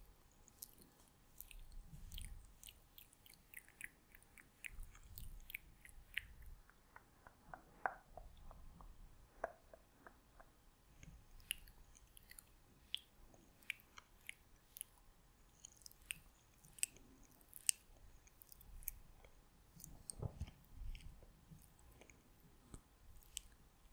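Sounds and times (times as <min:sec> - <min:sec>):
wet lip and tongue clicks: 0:00.4 - 0:23.9.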